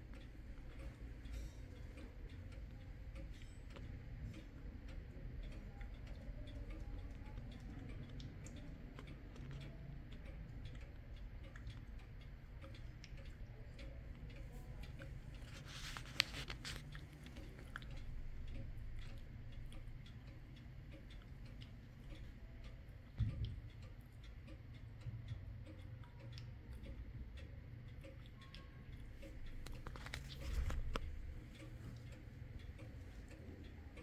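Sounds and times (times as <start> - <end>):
wall clock ticking: 0.0 - 34.0.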